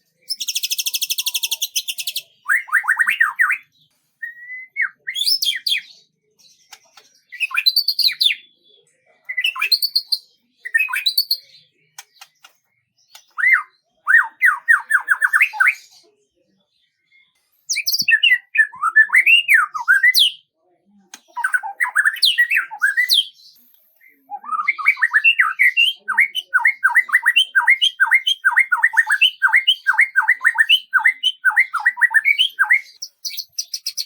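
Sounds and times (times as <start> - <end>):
songbird singing: 0.0 - 20.5, 21.1 - 34.0.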